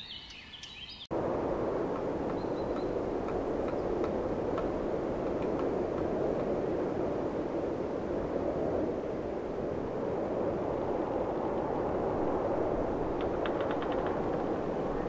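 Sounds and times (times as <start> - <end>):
steady rushing noise: 1.1 - 15.0.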